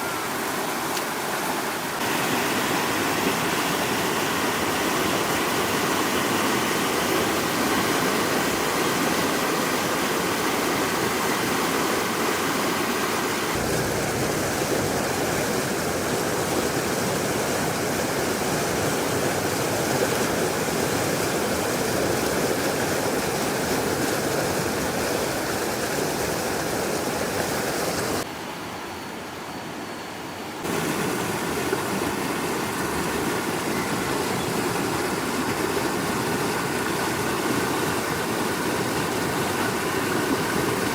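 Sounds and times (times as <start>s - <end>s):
water flowing: 0.0s - 28.3s, 30.6s - 40.9s.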